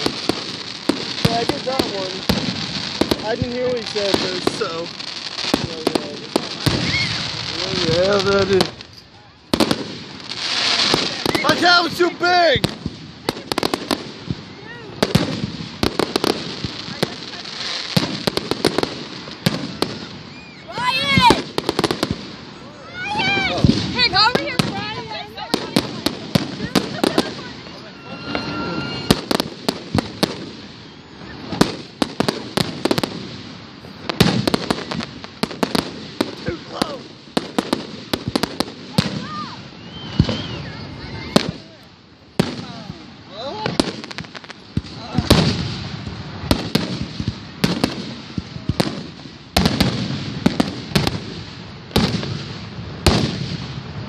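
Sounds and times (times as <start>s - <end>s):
fireworks cracking and popping: 0.0s - 54.0s.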